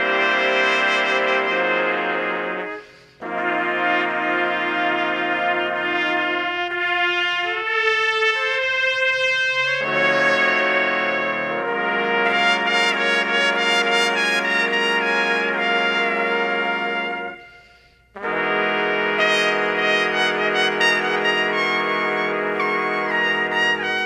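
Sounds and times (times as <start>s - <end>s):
trumpets playing a slow ballad: 0.0s - 24.0s.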